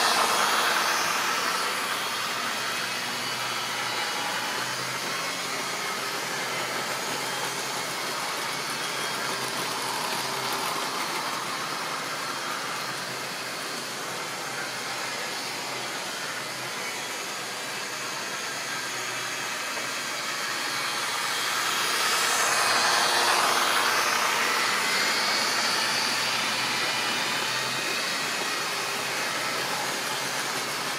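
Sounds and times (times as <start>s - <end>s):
model train motor whirring: 0.0s - 30.9s.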